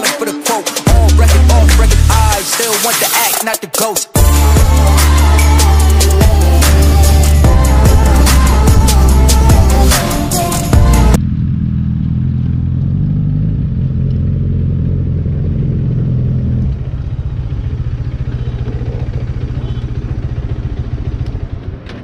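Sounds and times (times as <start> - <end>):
motorcycle engine running: 4.2 - 22.0.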